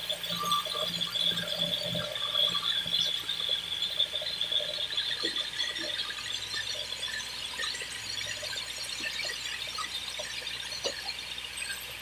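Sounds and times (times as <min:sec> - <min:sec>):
saw blade high-pitched whine: 0:00.0 - 0:12.0.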